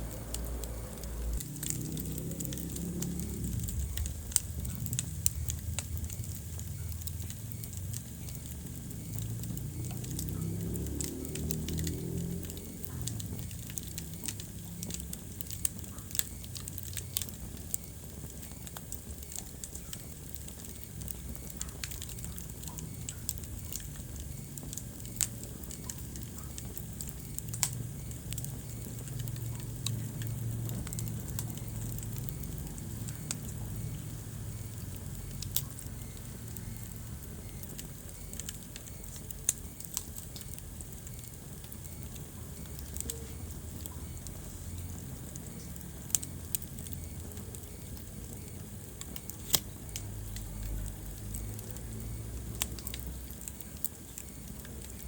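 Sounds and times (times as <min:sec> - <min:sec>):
fire crackling: 0:00.0 - 0:55.0
sharp pops of fire: 0:00.0 - 0:55.0.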